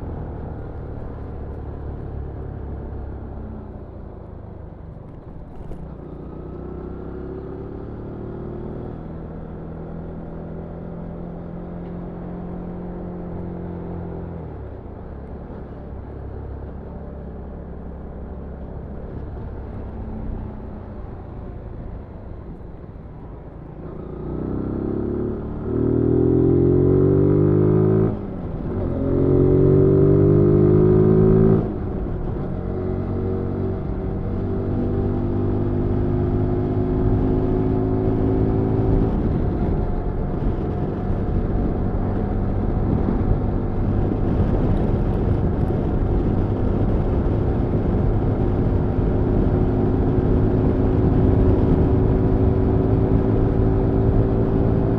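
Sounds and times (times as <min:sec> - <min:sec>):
wind and road noise: 0:00.0 - 0:54.9.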